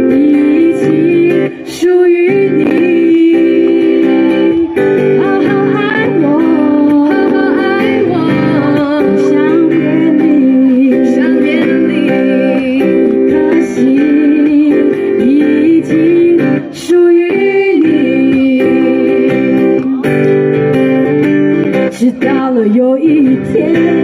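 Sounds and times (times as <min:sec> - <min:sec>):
strummed acoustic guitar: 0:00.0 - 0:24.0
woman singing: 0:00.0 - 0:24.0.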